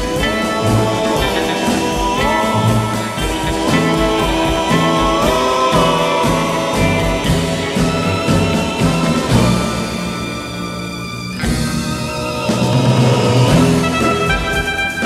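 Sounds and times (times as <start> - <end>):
guitar-led background music: 0.0 - 15.0.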